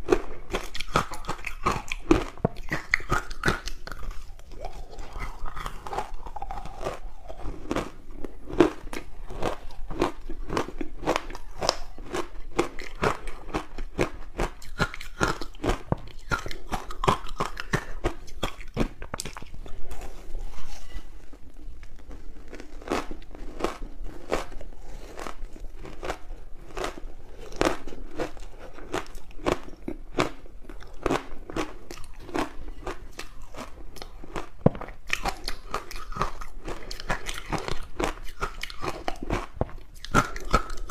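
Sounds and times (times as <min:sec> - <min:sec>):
crunching frozen ice balls: 0:00.0 - 0:40.9.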